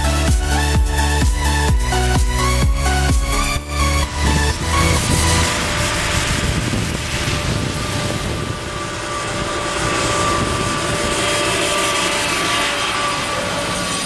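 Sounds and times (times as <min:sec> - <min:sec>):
harvester engine droning: 0:00.0 - 0:14.0.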